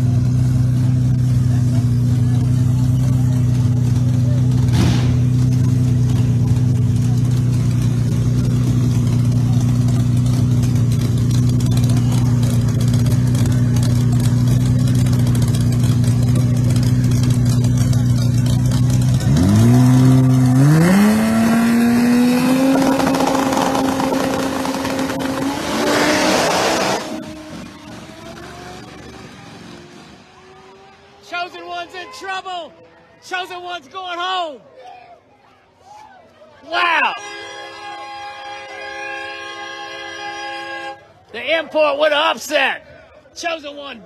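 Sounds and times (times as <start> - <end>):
race car engines revving: 0.0 - 33.6, 37.1 - 42.2.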